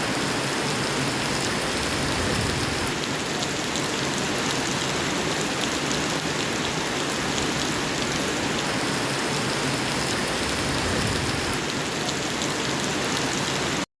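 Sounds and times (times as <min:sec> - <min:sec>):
heavy rain falling: 0:00.0 - 0:13.9.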